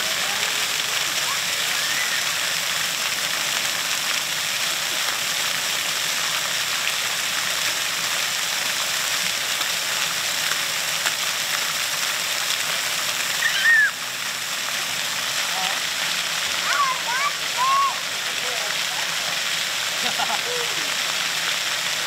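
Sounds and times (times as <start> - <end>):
fountain jets spraying water: 0.0 - 22.0.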